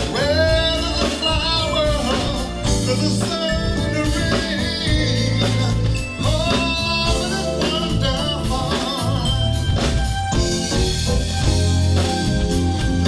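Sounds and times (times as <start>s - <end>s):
person singing: 0.0s - 10.8s
bass line: 0.0s - 13.0s
drum hits: 0.0s - 13.0s.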